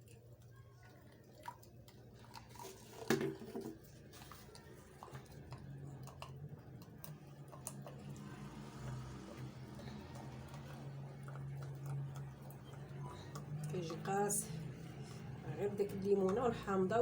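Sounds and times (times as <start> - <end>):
wet dripping and squishing: 0.0 - 16.4.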